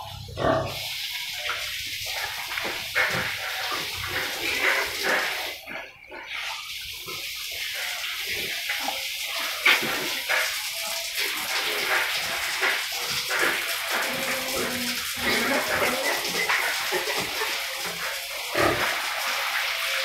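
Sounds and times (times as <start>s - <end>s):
pigs snuffling and snorting: 0.0s - 20.0s.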